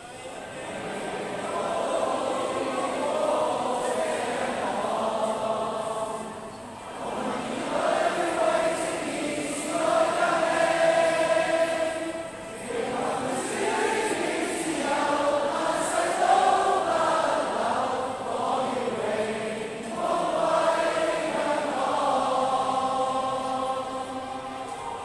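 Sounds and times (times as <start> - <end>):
crowd singing in unison: 0.0 - 25.0.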